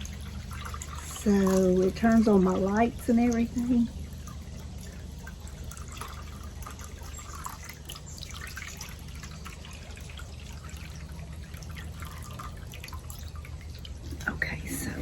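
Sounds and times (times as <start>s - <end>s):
steady low hum: 0.0s - 15.0s
water trickling into basin: 0.0s - 15.0s.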